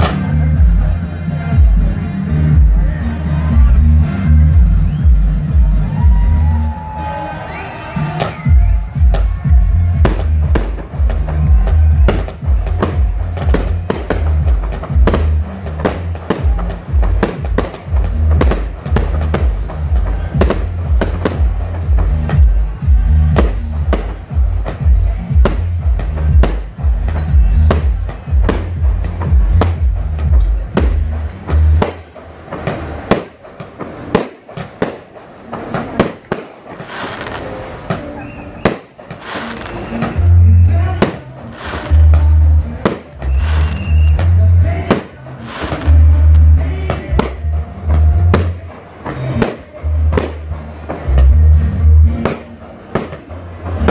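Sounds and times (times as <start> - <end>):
loud music with heavy bass: 0.0 - 53.9
fireworks bangs: 6.8 - 53.9.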